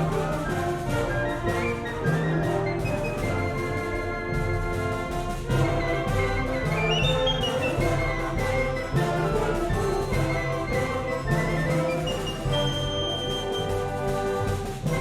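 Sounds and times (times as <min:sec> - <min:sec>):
wind band playing: 0:00.0 - 0:15.0.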